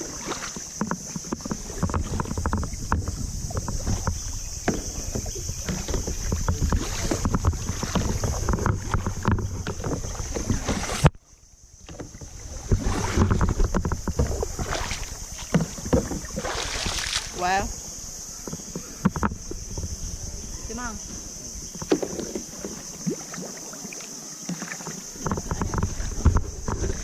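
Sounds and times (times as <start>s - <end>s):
paddle splashes: 0.0s - 27.0s
water sloshing: 0.0s - 27.0s
wind buffeting microphone: 1.2s - 23.1s, 25.0s - 27.0s.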